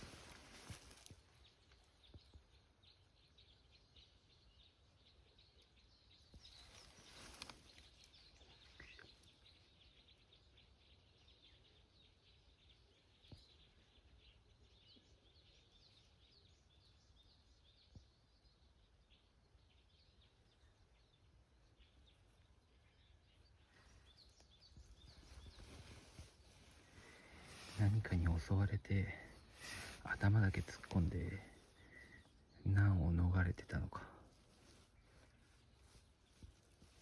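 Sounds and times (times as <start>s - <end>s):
distant bird chirps: 0.0s - 37.0s.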